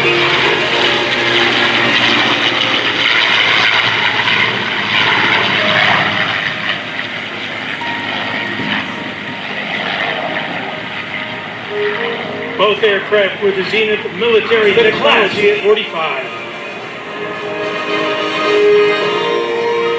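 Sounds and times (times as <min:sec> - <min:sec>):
propeller planes flying by: 0:00.0 - 0:19.9.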